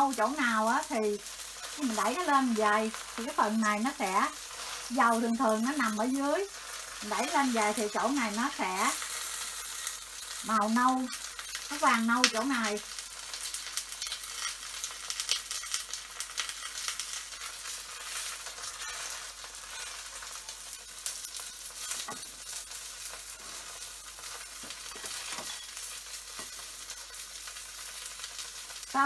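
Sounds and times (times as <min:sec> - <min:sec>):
crepe sizzling in hot oil: 0:00.0 - 0:29.0.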